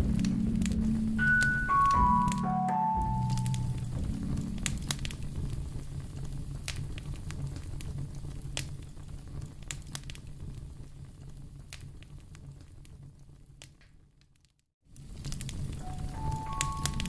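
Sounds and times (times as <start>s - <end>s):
low fire rumble: 0.0s - 1.6s, 3.1s - 17.0s
fire crackling and popping: 0.0s - 2.4s, 3.0s - 17.0s.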